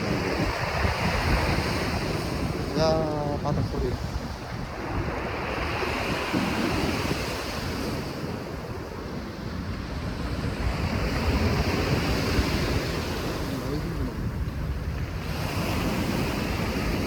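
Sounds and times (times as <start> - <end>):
sea waves washing ashore: 0.0 - 17.0
wind buffeting microphone: 0.0 - 17.0.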